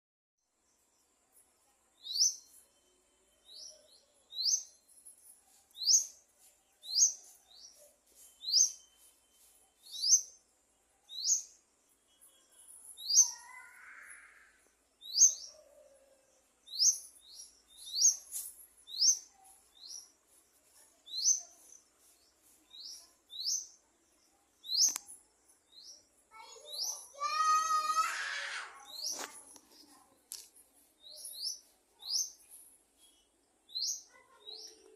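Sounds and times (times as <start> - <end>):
bird chirping: 0.5 - 27.9, 28.8 - 34.9.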